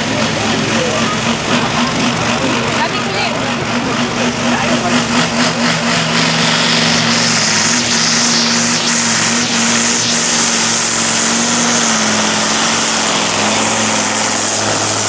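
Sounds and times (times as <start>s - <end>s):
diesel truck engine roaring: 0.0s - 15.0s.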